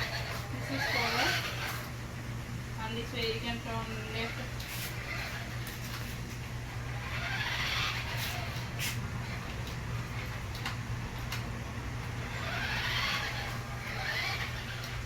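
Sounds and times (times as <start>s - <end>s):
toy car electric motor whining: 0.0s - 2.0s, 4.1s - 11.4s, 12.0s - 15.0s.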